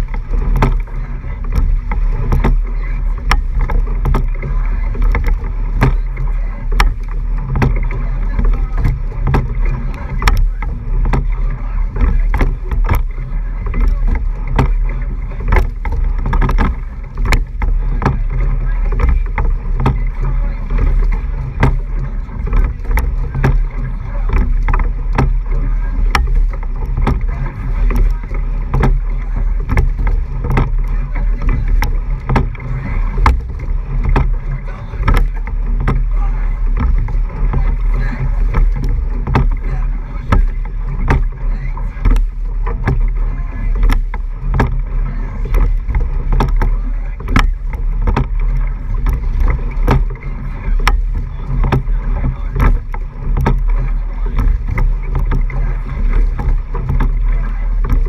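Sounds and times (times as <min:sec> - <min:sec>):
oars clicking in oarlocks: 0:00.0 - 0:58.0
water rushing: 0:00.0 - 0:58.0
wind on microphone: 0:00.0 - 0:58.0.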